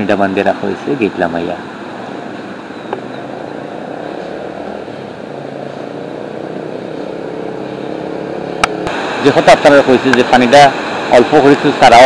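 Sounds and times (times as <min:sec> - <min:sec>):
river water rushing through sluice gates: 0:00.0 - 0:12.0.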